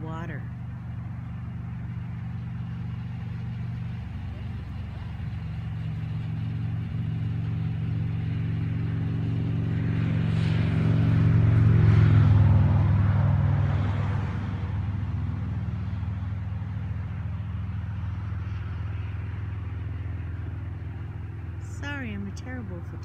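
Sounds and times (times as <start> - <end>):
engine humming: 0.0 - 23.0
vehicle passing: 0.0 - 23.0.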